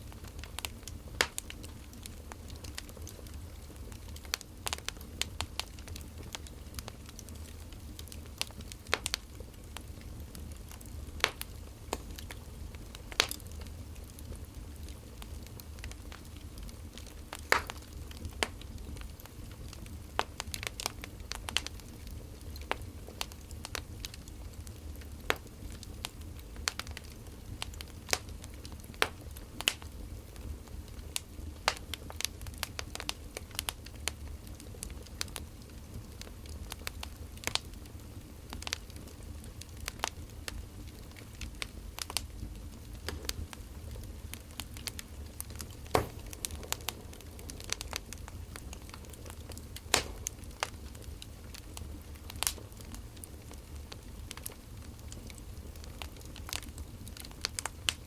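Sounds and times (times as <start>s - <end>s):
firewood crackling and popping: 0.0s - 58.0s.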